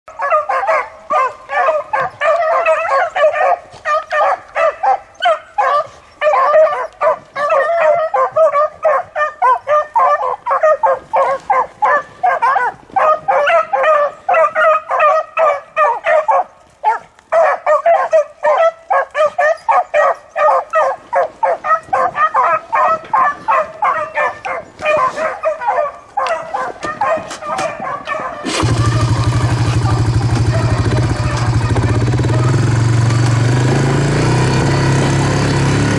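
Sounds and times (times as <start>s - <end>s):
hounds baying: 0.1s - 35.9s.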